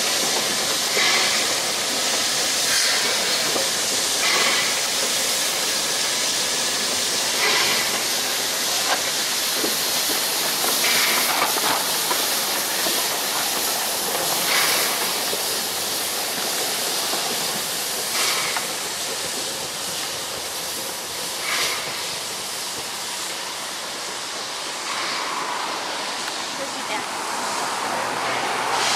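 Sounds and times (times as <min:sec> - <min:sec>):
steam train hissing: 0:00.0 - 0:28.9.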